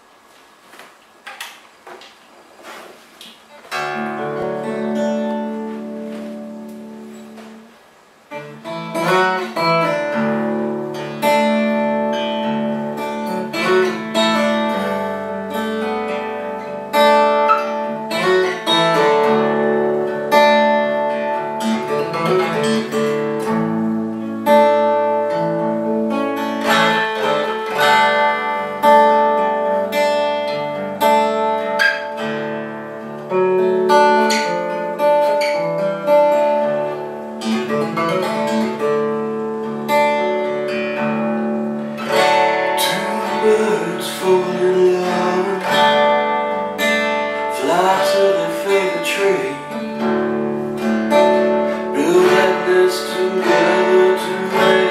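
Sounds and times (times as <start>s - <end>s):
acoustic guitar blues: 2.6s - 54.9s.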